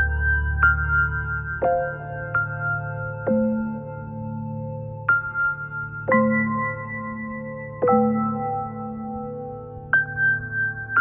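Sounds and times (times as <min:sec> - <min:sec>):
calm new-age keyboard music: 0:00.0 - 0:11.0.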